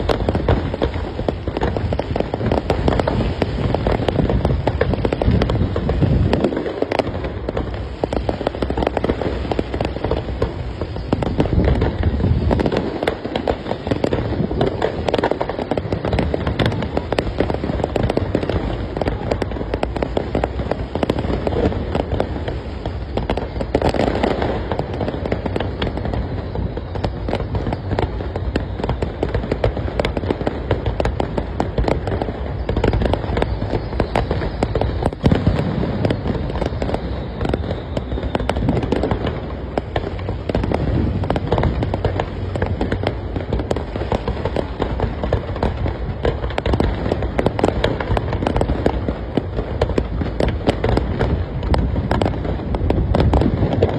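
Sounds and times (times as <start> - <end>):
firework bangs and crackles: 0.0 - 53.9
heavy firework booms: 0.0 - 53.9.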